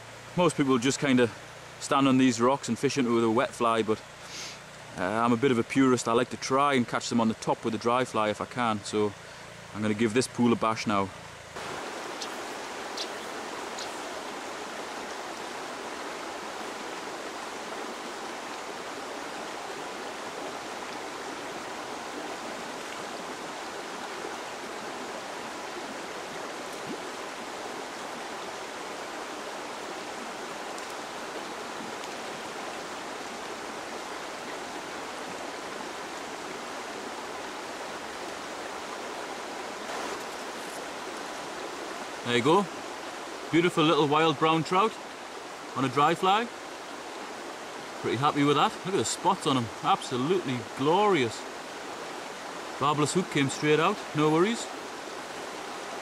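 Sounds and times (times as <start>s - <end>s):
river rushing over stones: 10.7s - 56.0s.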